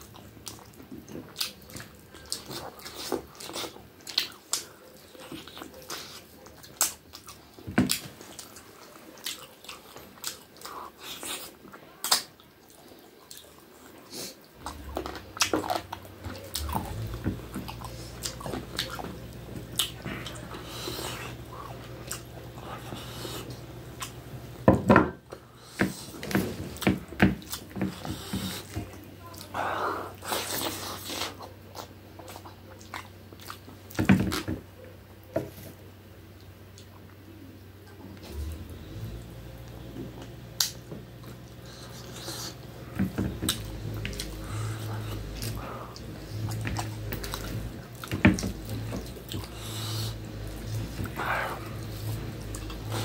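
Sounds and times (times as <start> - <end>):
chewing and smacking: 0.0 - 24.6, 25.3 - 35.3, 36.3 - 53.0.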